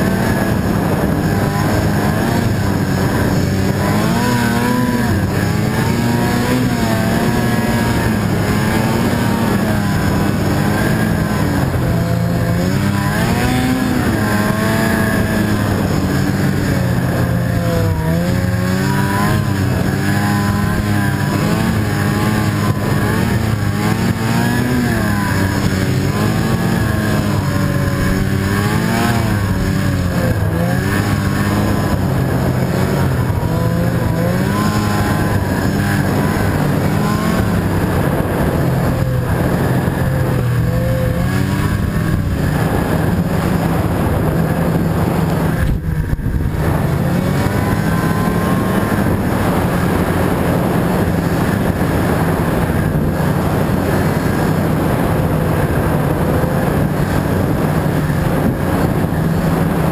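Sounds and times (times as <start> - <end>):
snowmobile engine revving: 0.0 - 59.9.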